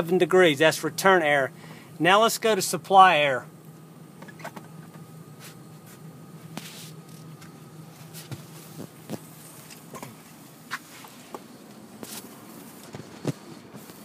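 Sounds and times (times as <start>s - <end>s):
air handler humming: 0.0s - 14.0s.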